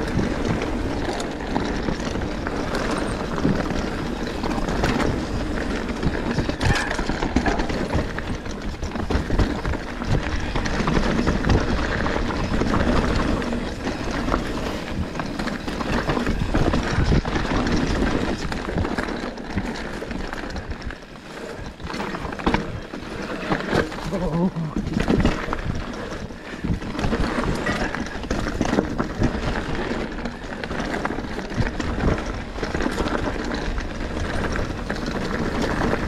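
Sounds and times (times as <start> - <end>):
bike knocking and rattling: 0.0 - 36.0
tyres rumbling over rocks: 0.0 - 36.0.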